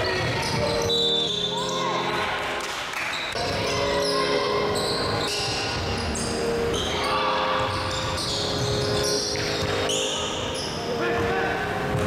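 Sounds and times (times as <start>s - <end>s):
sneaker squeaks: 0.0s - 2.1s, 3.0s - 11.0s.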